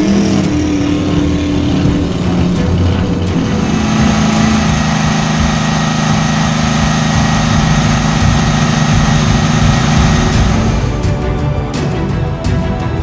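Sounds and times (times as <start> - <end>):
racing engine running hard: 0.0 - 13.0.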